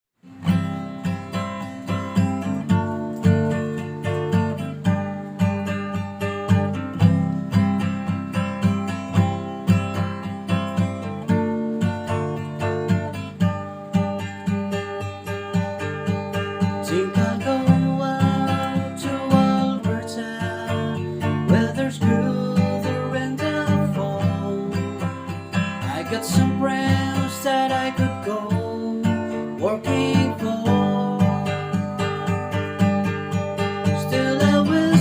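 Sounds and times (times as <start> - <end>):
acoustic guitar strumming: 0.2 - 35.0.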